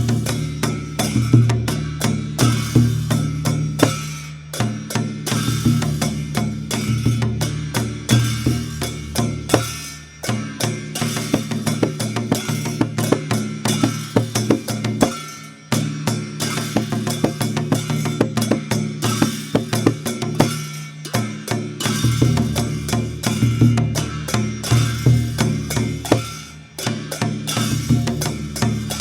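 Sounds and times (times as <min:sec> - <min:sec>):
barrel drum played fast: 0:00.0 - 0:29.0.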